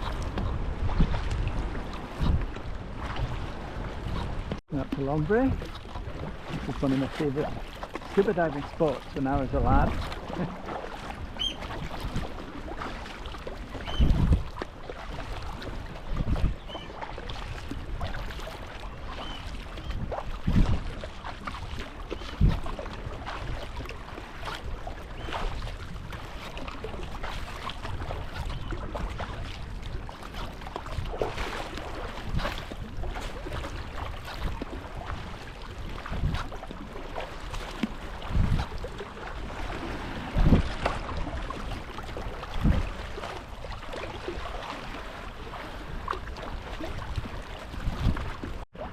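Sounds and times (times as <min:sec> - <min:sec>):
water sloshing and splashing: 0:00.0 - 0:48.9
wind on microphone: 0:00.0 - 0:48.9.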